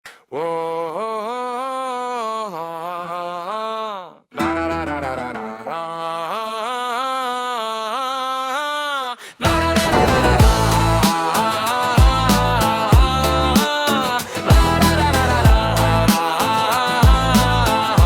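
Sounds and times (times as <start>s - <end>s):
wordless singing voice: 0.0s - 18.0s.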